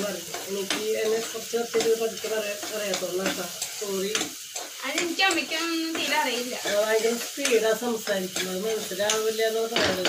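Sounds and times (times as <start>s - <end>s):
food sizzling: 0.0s - 10.0s
spatula scraping a wok: 0.0s - 10.0s.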